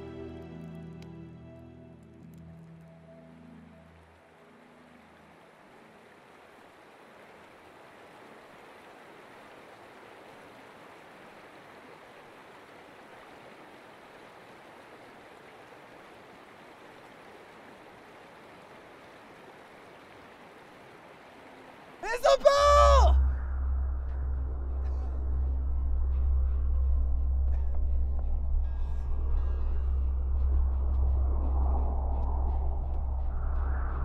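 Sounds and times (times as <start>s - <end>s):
faint steady rushing noise: 2.7s - 34.0s.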